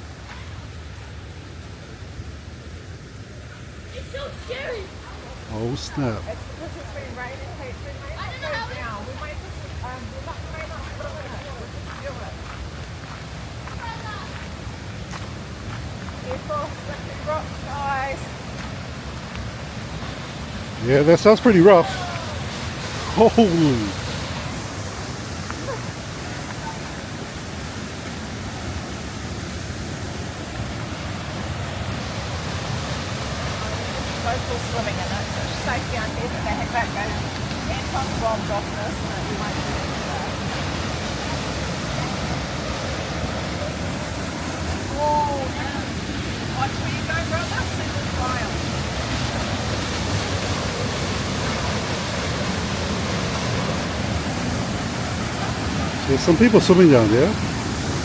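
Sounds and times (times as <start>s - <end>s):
waterfall rushing: 3.2s - 58.0s.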